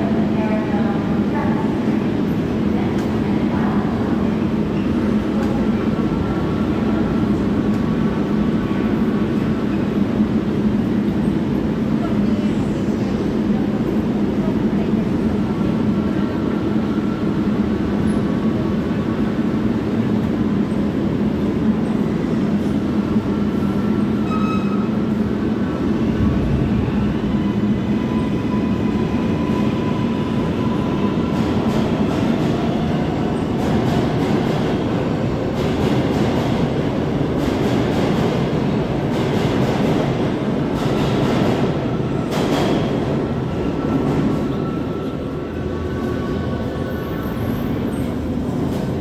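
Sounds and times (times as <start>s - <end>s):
subway train rumbling: 0.0s - 49.0s.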